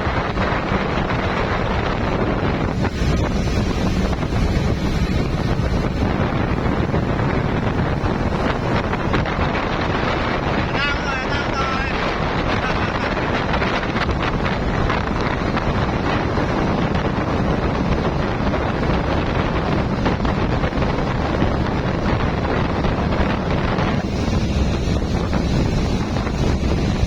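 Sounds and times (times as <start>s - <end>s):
boat engine: 0.0s - 27.0s
rushing water: 0.0s - 27.0s
wind buffeting microphone: 0.0s - 27.0s.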